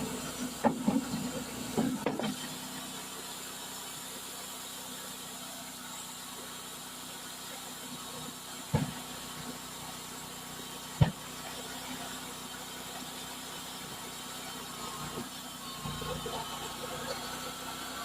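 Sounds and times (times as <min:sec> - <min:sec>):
sawmill engine idling: 0:00.0 - 0:18.0.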